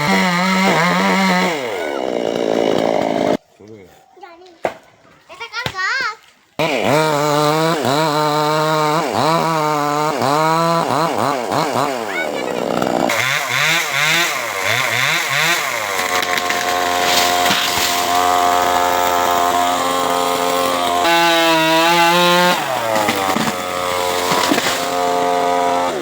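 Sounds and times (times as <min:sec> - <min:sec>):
chainsaw running: 0:00.0 - 0:03.4, 0:06.6 - 0:26.0.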